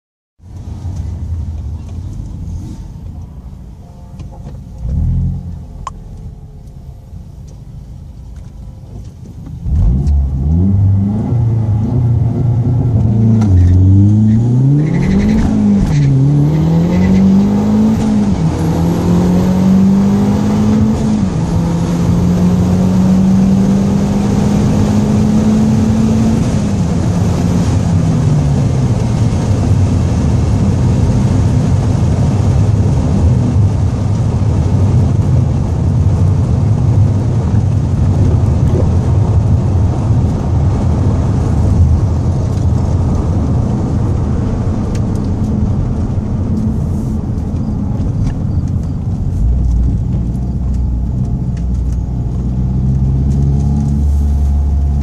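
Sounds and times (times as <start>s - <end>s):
car engine revving and accelerating: 4.7s - 6.7s, 9.6s - 55.0s.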